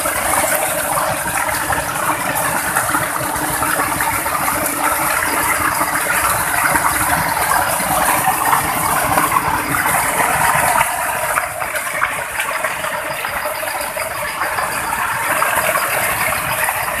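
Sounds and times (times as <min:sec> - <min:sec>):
waterfall and stream splashing: 0:00.0 - 0:17.0.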